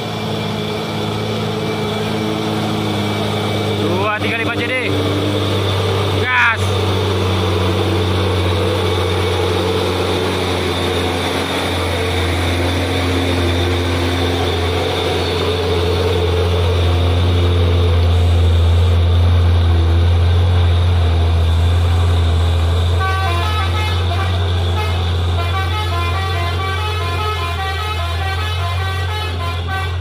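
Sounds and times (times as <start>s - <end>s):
diesel truck engine pulling uphill: 0.0s - 30.0s.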